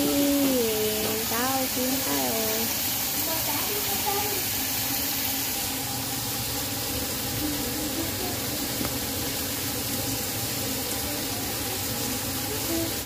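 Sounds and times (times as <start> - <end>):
soup boiling in pot: 0.0 - 13.0.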